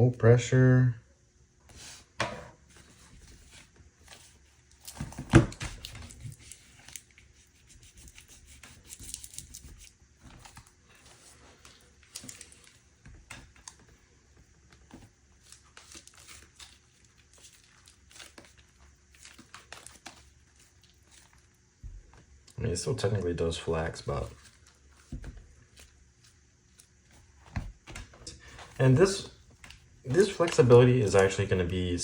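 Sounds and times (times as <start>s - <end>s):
tape crinkling and rustling: 2.6s - 32.0s.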